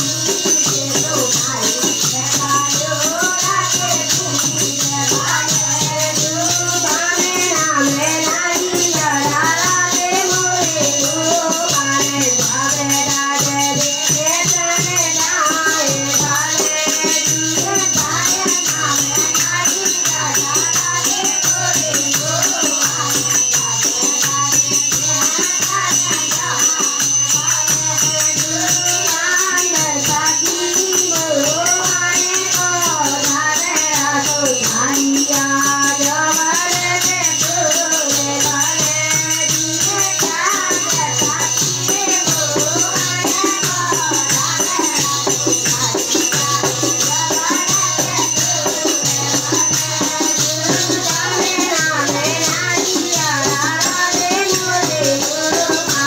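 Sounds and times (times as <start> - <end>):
group singing: 0.0 - 56.0
hand rattle shaken: 0.0 - 56.0.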